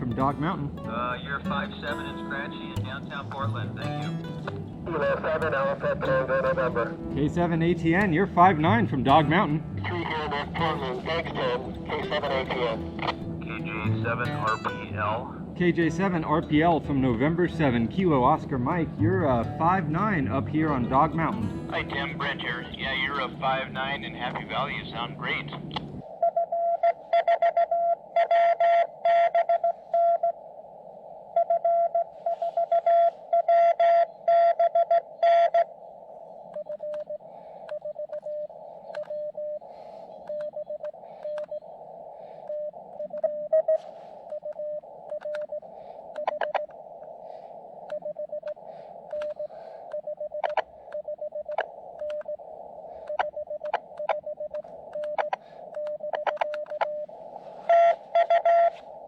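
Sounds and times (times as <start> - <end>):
radio receiver hiss: 0.0 - 59.0
morse code keyed tone: 0.9 - 25.6, 31.4 - 35.7, 36.5 - 41.7, 42.4 - 46.7, 47.8 - 58.8.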